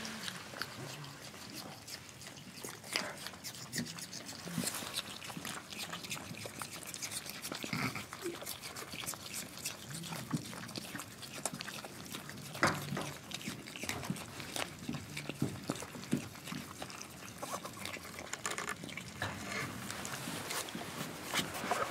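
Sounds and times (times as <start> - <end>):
opossums chewing and smacking: 0.0 - 21.9.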